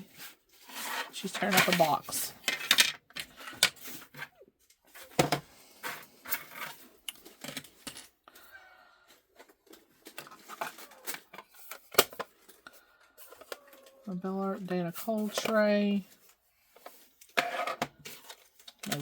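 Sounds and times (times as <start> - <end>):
small items and packaging handled: 0.0 - 19.0.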